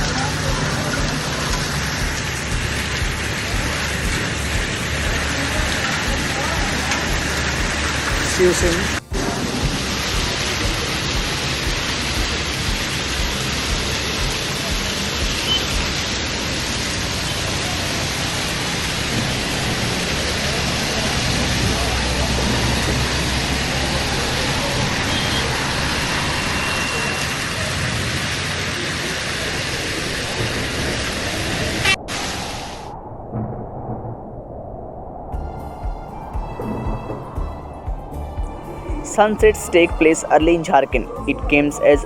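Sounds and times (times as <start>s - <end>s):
heavy rain falling: 0.0s - 32.9s, 36.4s - 42.0s.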